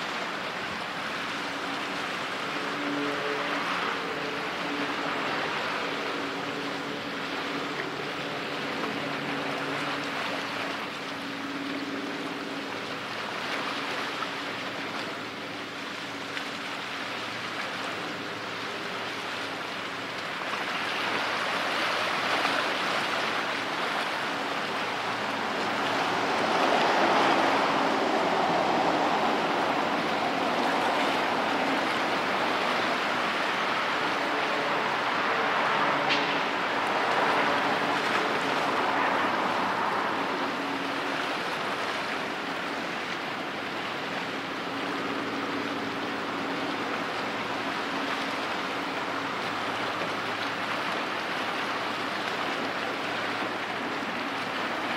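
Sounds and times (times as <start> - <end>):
boat engine drone: 0.0 - 54.9
water rushing from hull: 0.0 - 54.9.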